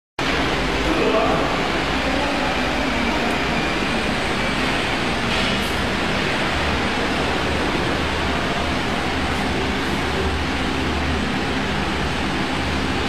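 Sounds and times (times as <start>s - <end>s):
machine running: 0.2s - 13.0s.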